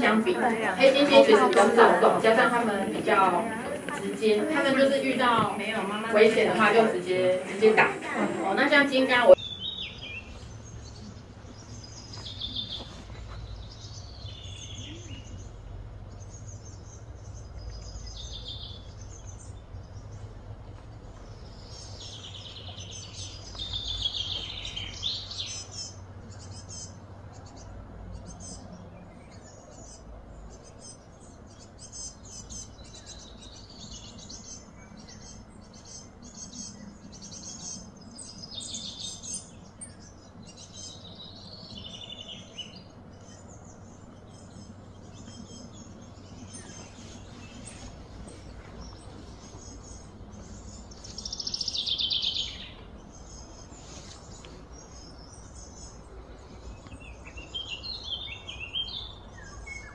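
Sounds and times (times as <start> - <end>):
birds chirping: 0.0 - 59.9
low steady hum: 0.0 - 59.9.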